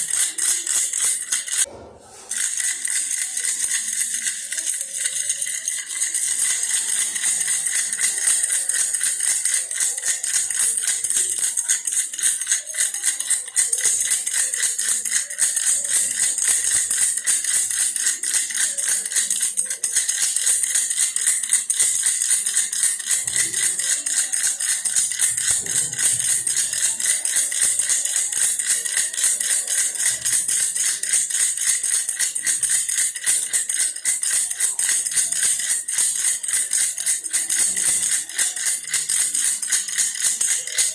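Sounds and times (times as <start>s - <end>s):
baby rattle shaking: 0.0s - 40.9s.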